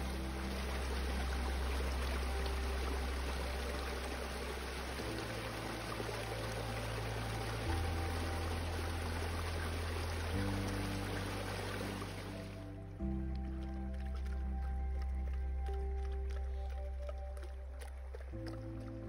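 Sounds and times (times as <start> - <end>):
low background music notes: 0.0 - 19.0
stream trickling over rocks: 0.0 - 19.0.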